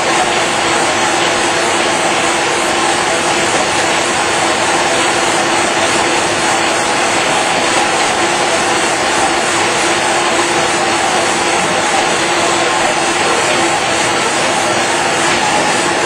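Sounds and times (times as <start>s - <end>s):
printing machine running: 0.0s - 16.0s
steady machine hum: 0.0s - 16.0s.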